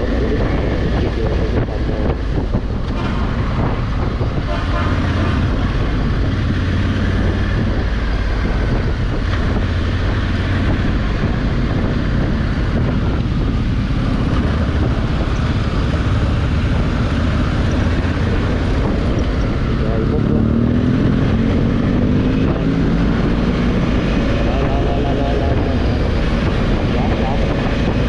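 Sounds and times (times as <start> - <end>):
wind noise on microphone: 0.0 - 28.0.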